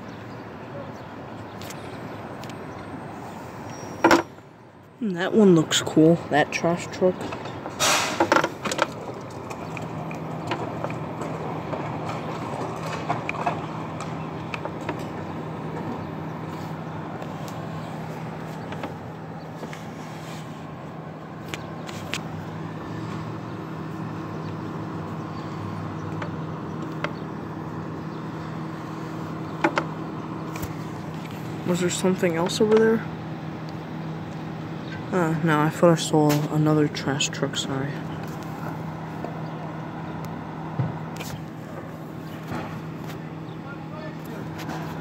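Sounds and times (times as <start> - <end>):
vehicle engine humming: 0.0 - 45.0.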